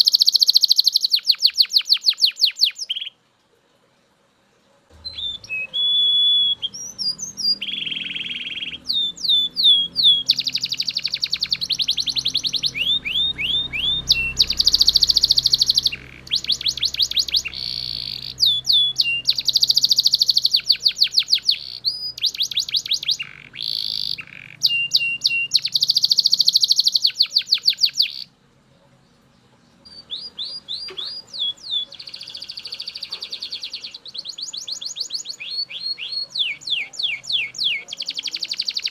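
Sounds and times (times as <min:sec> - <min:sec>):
canary singing trills: 0:00.0 - 0:03.2, 0:04.9 - 0:38.9.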